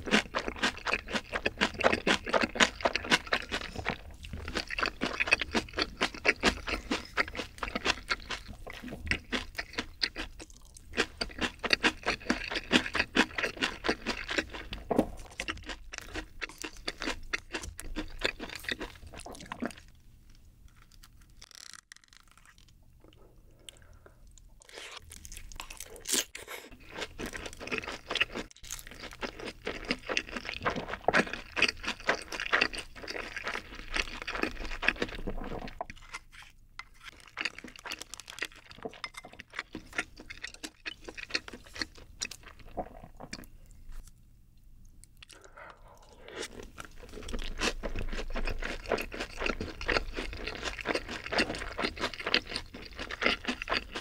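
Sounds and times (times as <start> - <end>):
crunchy wet chewing: 0.0 - 20.0, 20.7 - 44.2, 44.9 - 54.0.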